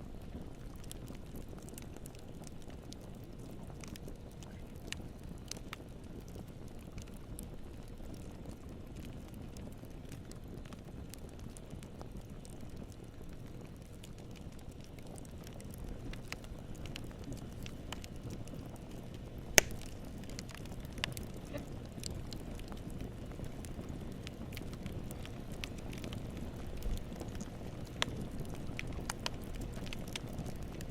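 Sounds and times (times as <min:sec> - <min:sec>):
campfire flames rumbling: 0:00.0 - 0:30.9
fire snaps and pops: 0:00.0 - 0:30.9.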